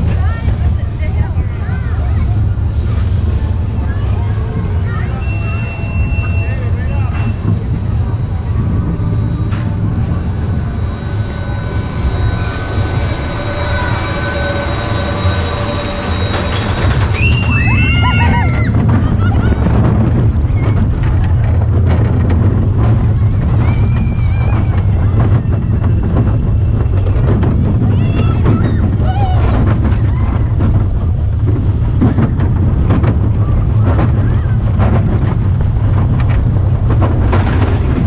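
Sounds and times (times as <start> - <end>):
roller coaster train rumbling: 0.0 - 38.0
wheels rattling and clacking: 0.0 - 38.0
wind buffeting microphone: 0.0 - 38.0.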